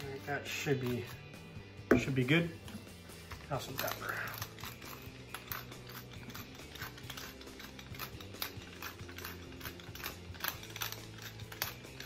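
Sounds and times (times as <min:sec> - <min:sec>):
pepper mill grinding: 0:00.0 - 0:01.4, 0:02.0 - 0:12.0.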